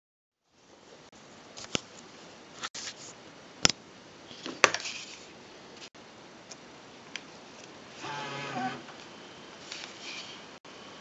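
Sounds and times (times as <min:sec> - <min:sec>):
steady low hiss: 0:00.4 - 0:11.0.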